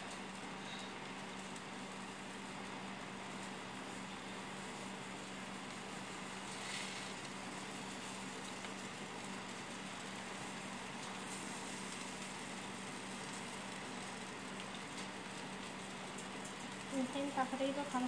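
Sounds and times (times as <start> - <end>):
oven humming and hissing: 0.0 - 18.0.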